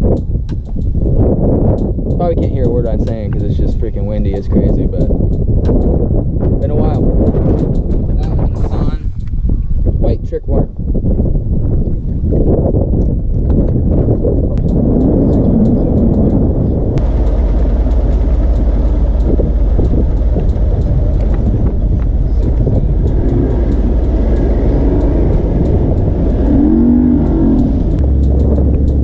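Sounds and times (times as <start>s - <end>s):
moving vehicle rumble: 0.0s - 29.0s.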